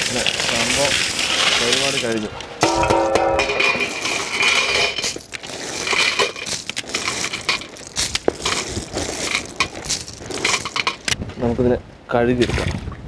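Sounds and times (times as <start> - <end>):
clam shells clattering in metal pot: 0.0 - 11.2.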